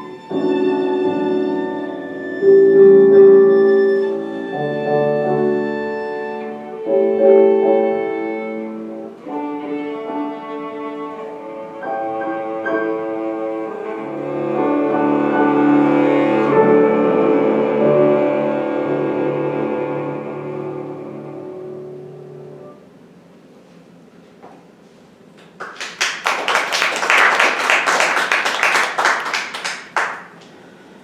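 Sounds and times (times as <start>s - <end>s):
piano: 0.0s - 23.1s, 25.6s - 30.6s.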